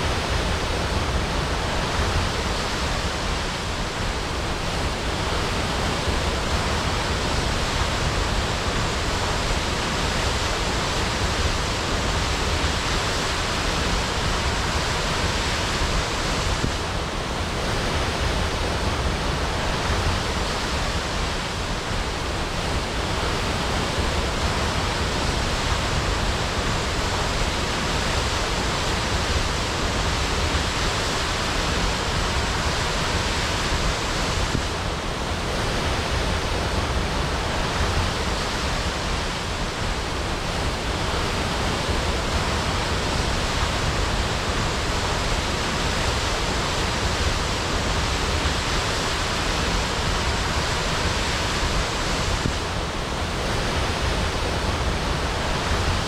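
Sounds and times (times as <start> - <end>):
waterfall crashing: 0.0 - 56.0.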